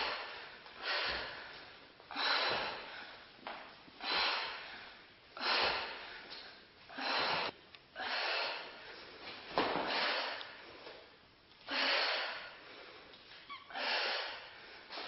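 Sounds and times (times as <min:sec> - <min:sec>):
woman breathing hard: 0:00.0 - 0:15.0.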